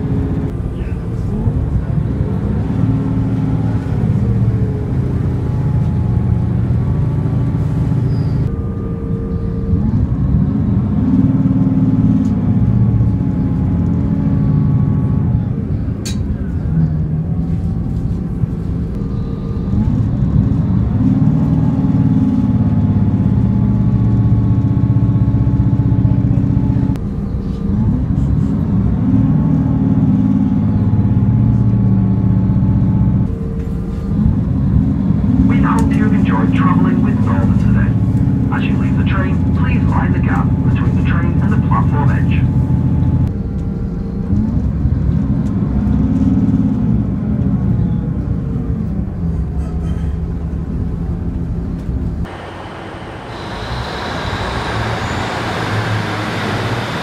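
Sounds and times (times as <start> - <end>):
train engine working hard: 0.0 - 46.0, 46.6 - 57.0.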